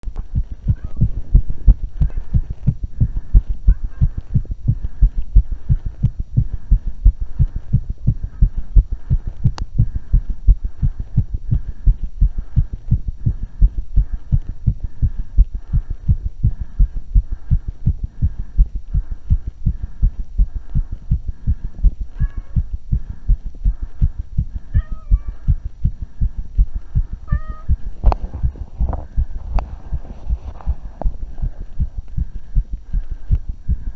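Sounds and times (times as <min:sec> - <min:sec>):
heartbeat thumps: 0:00.0 - 0:33.9.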